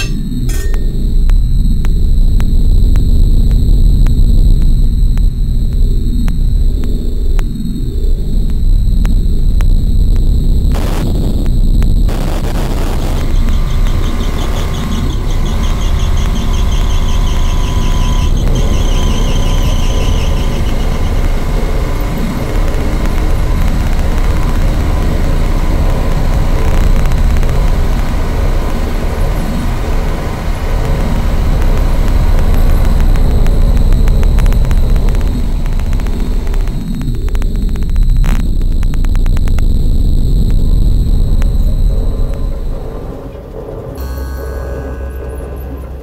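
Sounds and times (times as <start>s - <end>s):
high pulsing tone: 0.0s - 46.0s
traffic rumble: 0.0s - 46.0s.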